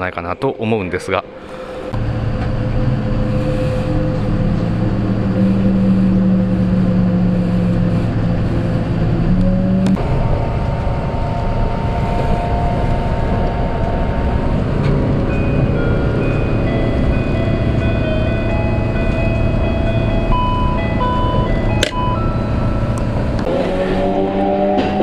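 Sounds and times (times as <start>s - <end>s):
train rumble: 0.0s - 25.0s
low motor hum: 1.3s - 25.0s
high steady whine: 1.4s - 25.0s.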